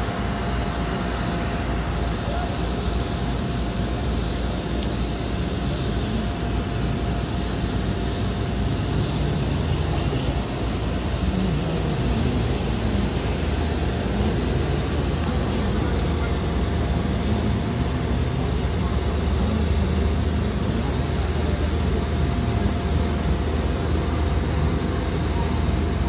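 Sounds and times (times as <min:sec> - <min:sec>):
faint steady whine: 0:00.0 - 0:26.0
faint voices: 0:00.0 - 0:26.0
jet aircraft roar: 0:00.0 - 0:26.0.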